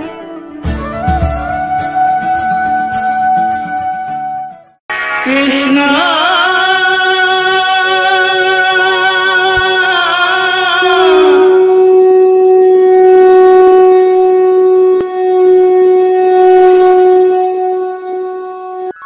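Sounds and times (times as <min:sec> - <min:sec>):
wind instrument music with vibrato: 0:00.0 - 0:09.1, 0:10.8 - 0:19.0.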